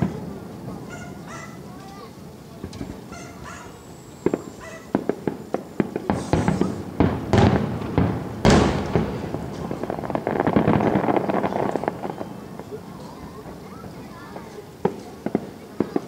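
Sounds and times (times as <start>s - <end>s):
firework bangs and pops: 0.0s - 1.2s, 4.2s - 16.0s
big firework bursts: 0.0s - 16.0s
firework crackling: 0.0s - 16.0s.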